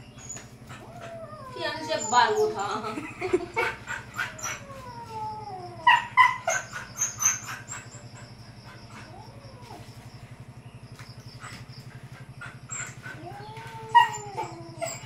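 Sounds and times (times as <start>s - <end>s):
steady low hum: 0.0s - 15.0s
pet animal crying: 0.1s - 10.2s, 11.4s - 15.0s.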